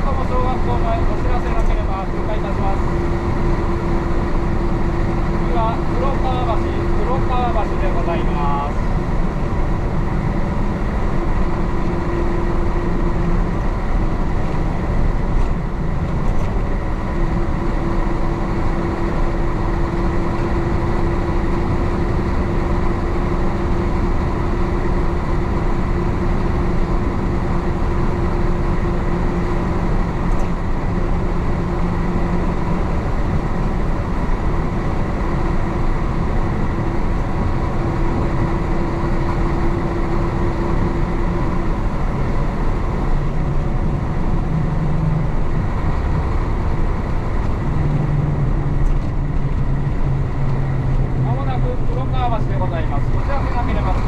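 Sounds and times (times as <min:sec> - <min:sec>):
diesel bus engine droning: 0:00.0 - 0:54.0
road noise: 0:00.0 - 0:54.0.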